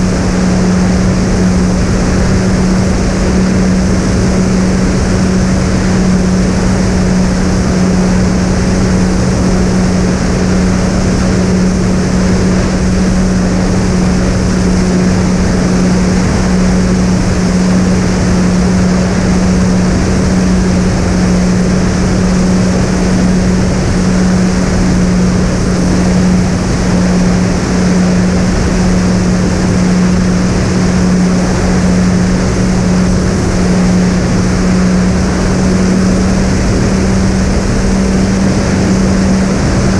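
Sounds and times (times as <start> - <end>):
rush of air: 0.0 - 39.9.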